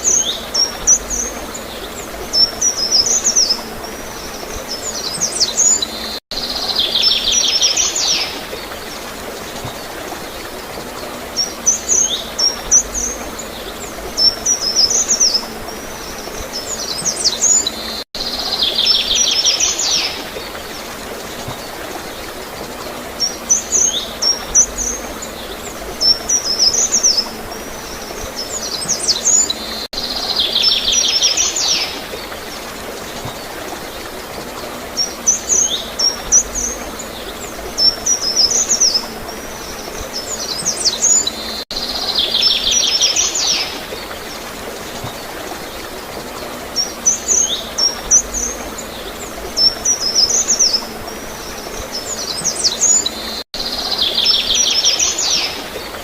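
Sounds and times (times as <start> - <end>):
flowing water hiss: 0.0 - 56.0
songbirds chirping and trilling: 0.0 - 56.0.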